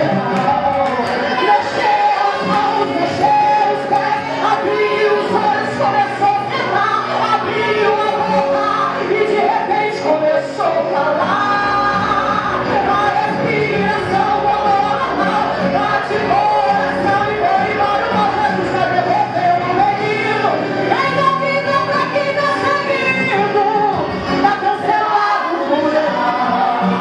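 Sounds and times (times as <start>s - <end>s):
electric guitar accompaniment: 0.0s - 27.0s
woman singing into microphone: 0.0s - 27.0s.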